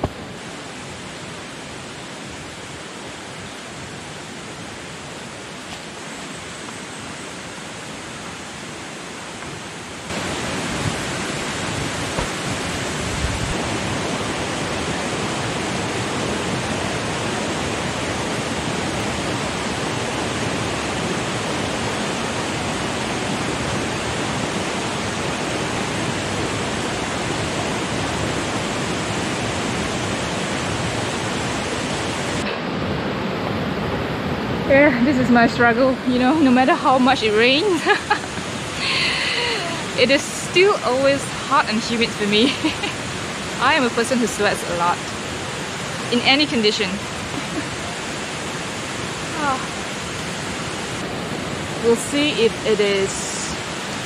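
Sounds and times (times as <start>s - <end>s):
rushing river water: 0.0s - 54.0s.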